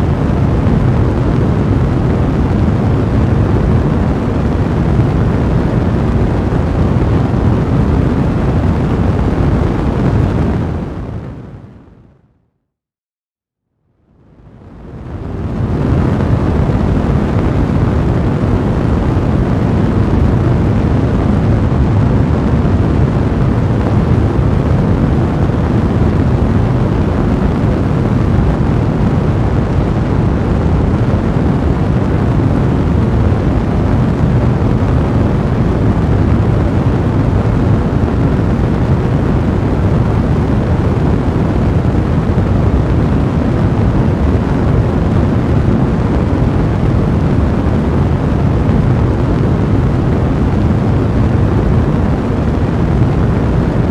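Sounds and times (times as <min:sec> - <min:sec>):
fire crackling and rumbling: 0:00.0 - 0:12.1, 0:14.0 - 0:53.9.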